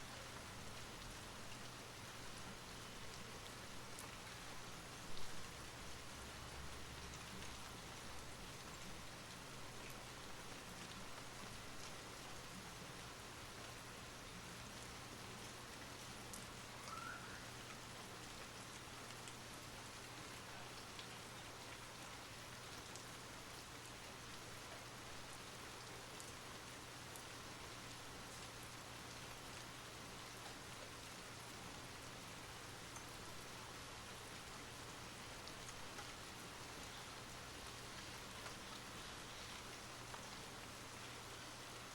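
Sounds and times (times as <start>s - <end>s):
raindrops ticking: 0.0s - 41.9s
soft steady rain: 0.0s - 41.9s.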